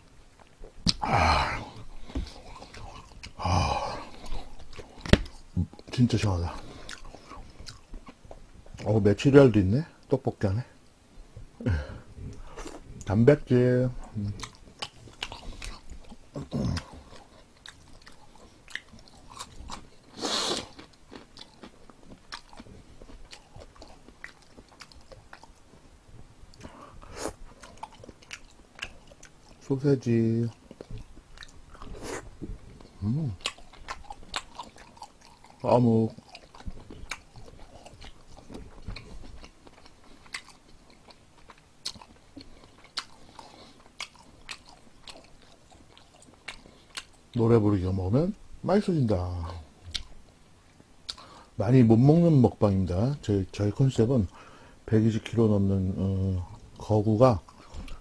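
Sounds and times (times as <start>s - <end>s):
man chewing and eating: 0.0s - 10.2s, 10.8s - 58.0s.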